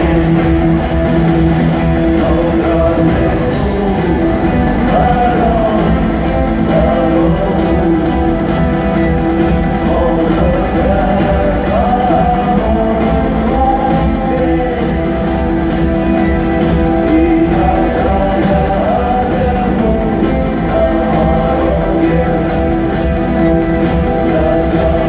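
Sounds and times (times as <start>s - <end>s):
live rock band playing: 0.0s - 25.0s
person singing: 0.0s - 25.0s.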